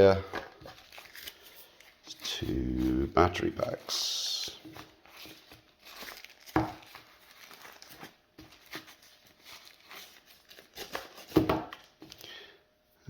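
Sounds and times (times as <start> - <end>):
packaging crinkling and rustling: 0.0 - 12.3.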